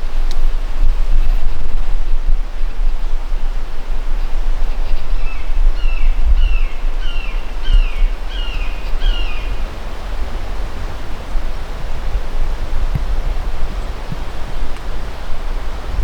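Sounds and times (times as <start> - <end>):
low wind rumble: 0.0 - 16.0.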